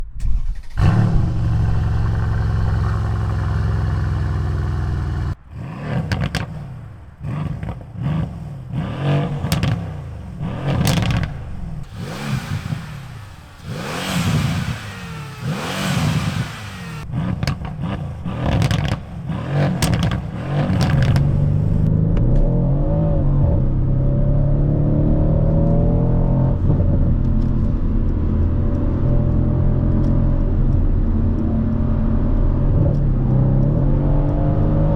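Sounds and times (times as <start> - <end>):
car engine revving with crackles: 0.2 - 34.9.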